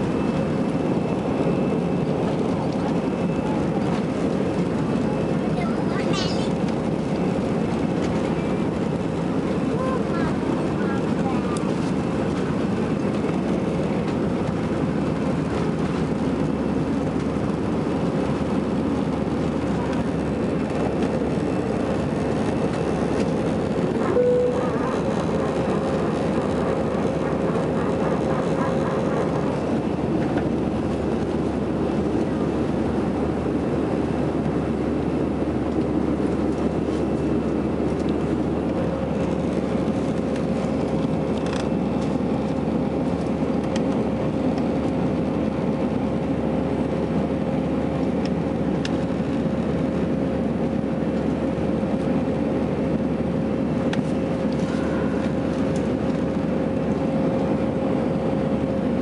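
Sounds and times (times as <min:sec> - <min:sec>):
jet engine drone and rushing air: 0:00.0 - 0:59.0.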